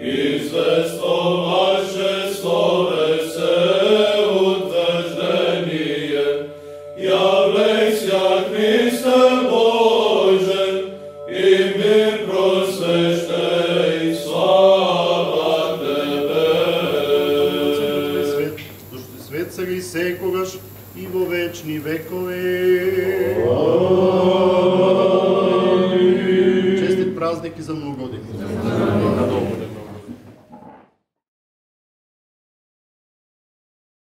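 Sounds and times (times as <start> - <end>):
men chanting a hymn: 0.0 - 29.9.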